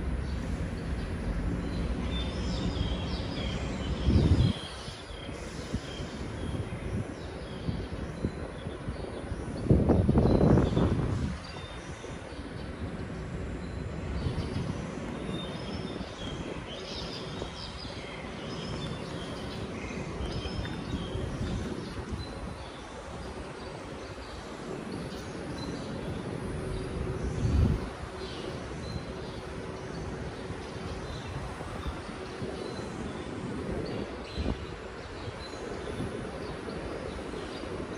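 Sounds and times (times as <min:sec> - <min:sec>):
birds chirping: 0:00.0 - 0:37.9
low city rumble: 0:00.0 - 0:37.9.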